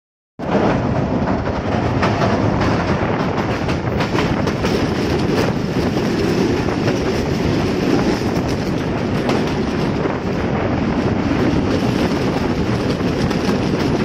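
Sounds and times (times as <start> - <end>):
train wheels clacking: 0.4 - 14.0
train wheels rumbling on rails: 0.4 - 14.0.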